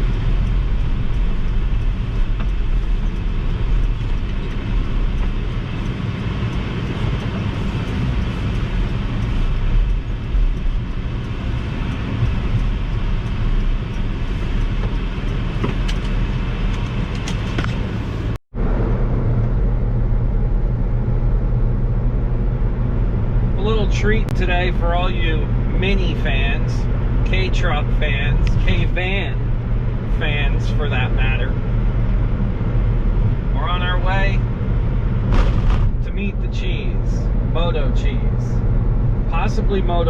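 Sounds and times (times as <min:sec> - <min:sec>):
road and tyre noise: 0:00.0 - 0:40.0
truck engine running while driving: 0:00.0 - 0:40.0.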